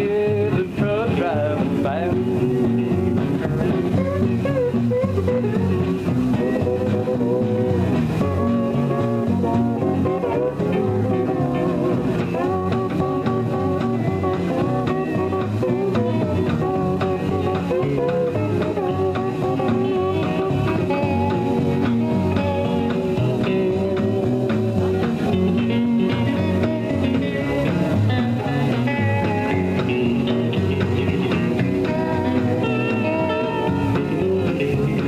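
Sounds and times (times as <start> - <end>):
country band playing: 0.0 - 35.0
lead guitar: 0.0 - 35.0.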